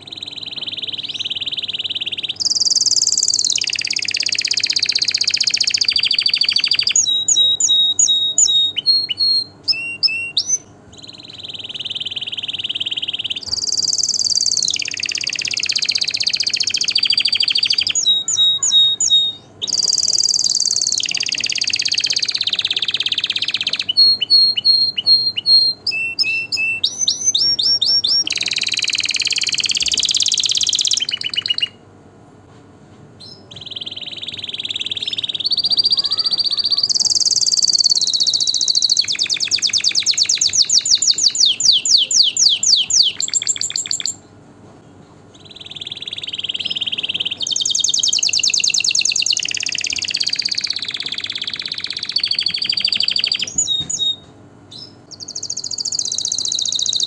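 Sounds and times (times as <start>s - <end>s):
canary singing trills: 0.0s - 31.9s, 33.2s - 44.4s, 45.2s - 57.0s.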